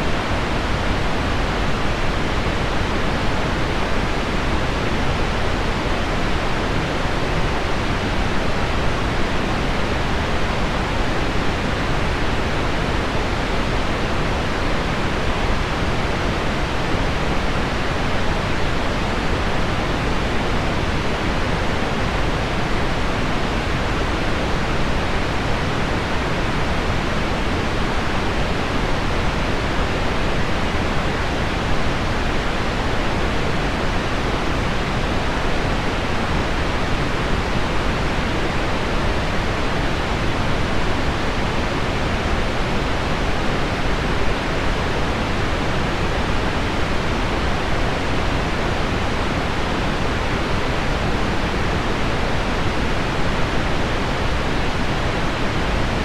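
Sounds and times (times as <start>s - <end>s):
pink noise: 0.0s - 56.0s.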